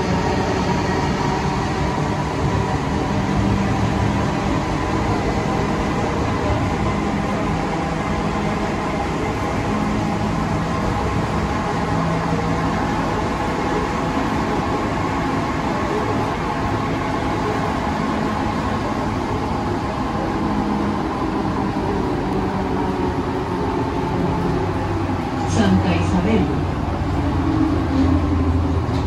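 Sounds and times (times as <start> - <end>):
metro train travelling at speed: 0.0 - 29.0.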